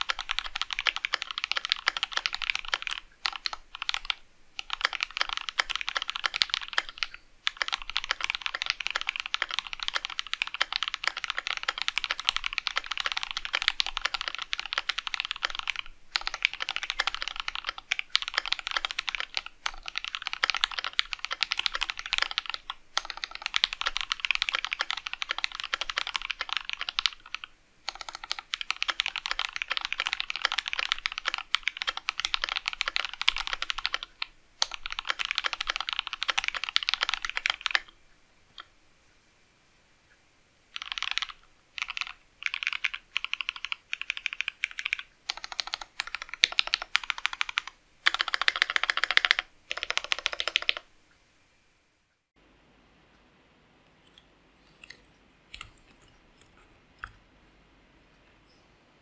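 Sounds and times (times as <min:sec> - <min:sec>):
fast typing on keyboard: 0:00.0 - 0:38.0, 0:40.7 - 0:50.9.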